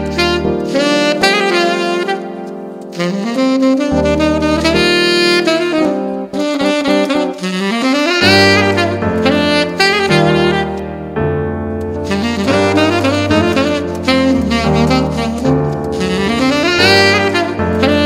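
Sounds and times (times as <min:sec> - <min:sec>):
saxophone melody: 0:00.0 - 0:18.0.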